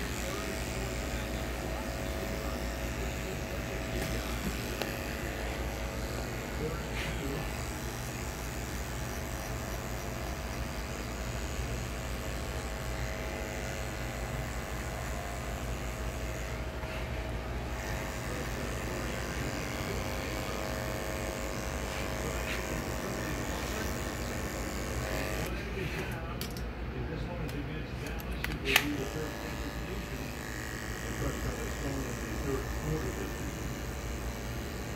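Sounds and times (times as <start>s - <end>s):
electric hair clippers buzzing: 0.0s - 26.6s, 28.0s - 34.9s.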